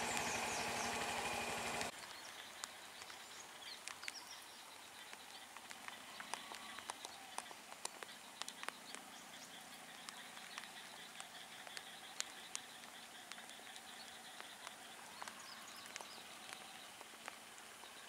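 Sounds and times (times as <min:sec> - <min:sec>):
sharp ticks: 0:00.0 - 0:01.9, 0:05.0 - 0:18.0
small birds chirping: 0:00.0 - 0:18.0.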